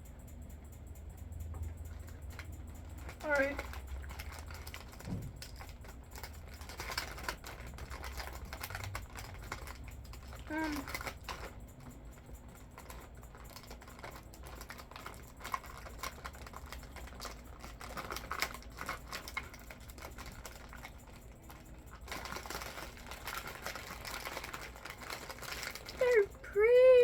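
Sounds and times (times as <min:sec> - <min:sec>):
cookie crunching: 0:02.9 - 0:11.6, 0:12.4 - 0:26.6.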